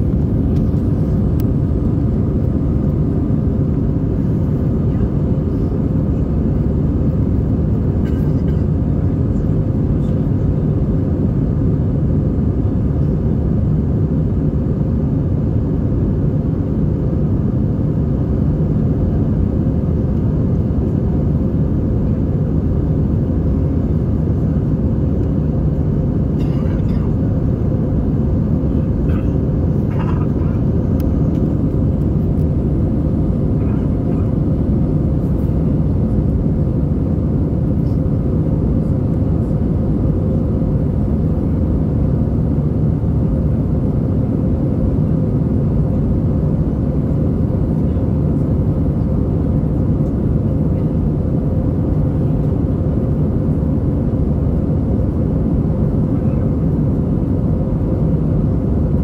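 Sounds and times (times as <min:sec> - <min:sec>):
airplane engine and airflow drone: 0:00.0 - 0:59.0
steady hum: 0:00.0 - 0:59.0.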